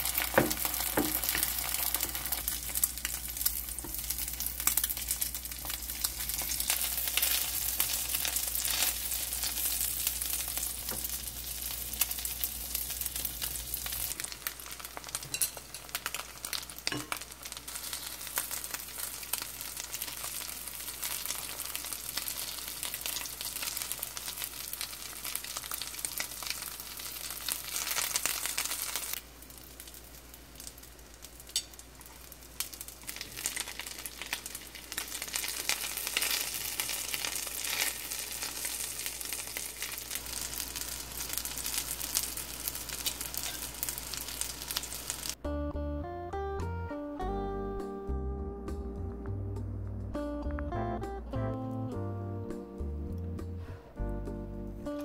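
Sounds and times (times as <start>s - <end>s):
dumplings sizzling in oil: 0.0s - 45.4s.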